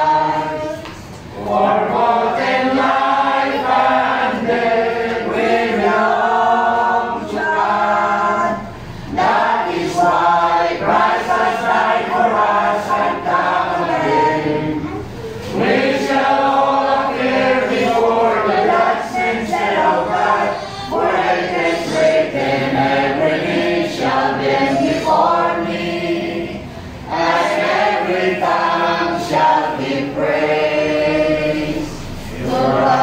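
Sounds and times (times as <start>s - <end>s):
group singing a hymn unaccompanied: 0.0s - 33.0s.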